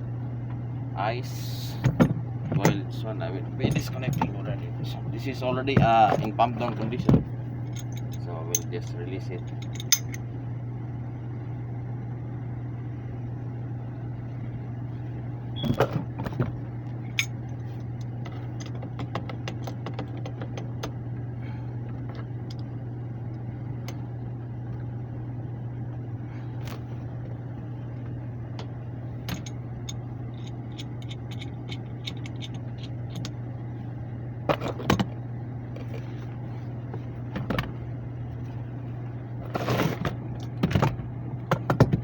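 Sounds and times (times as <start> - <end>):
blower fan humming: 0.0 - 42.0.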